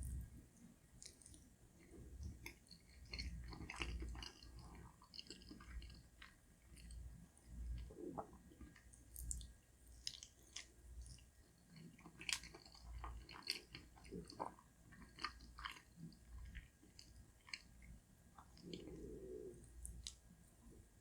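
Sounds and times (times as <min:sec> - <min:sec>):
chewing soft food: 0:00.0 - 0:21.0.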